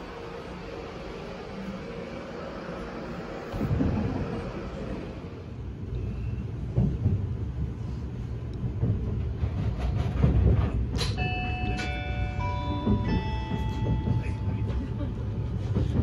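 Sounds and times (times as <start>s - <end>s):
train running low rumble: 0.0s - 16.0s.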